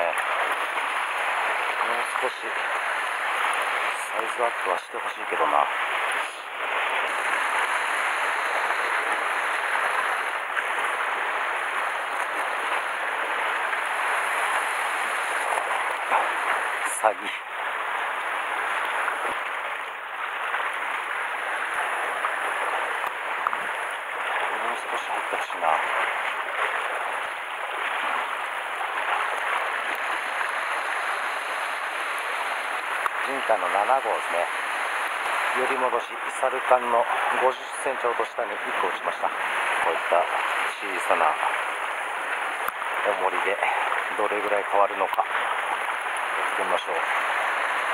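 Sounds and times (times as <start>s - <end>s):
waves splashing over rocks: 0.0s - 47.9s.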